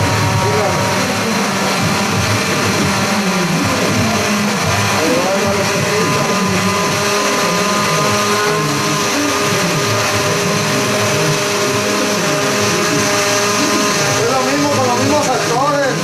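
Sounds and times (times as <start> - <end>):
blender running: 0.0 - 16.0.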